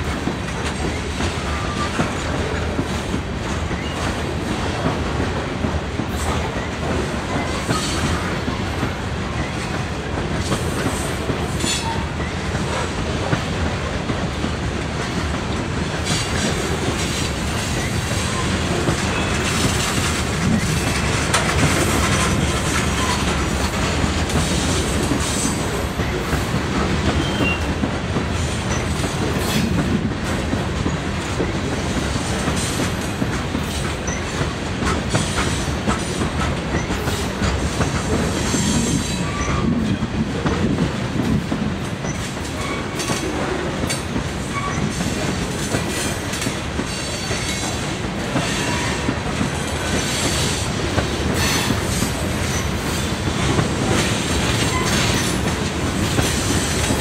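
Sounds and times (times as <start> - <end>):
freight train wheels rumbling: 0.0 - 57.0
wheels clacking over rail joints: 0.0 - 57.0.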